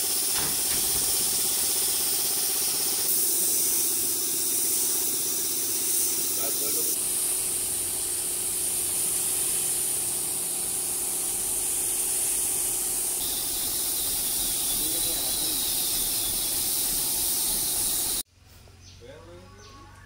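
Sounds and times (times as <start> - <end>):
spray gun hissing: 0.0 - 18.3.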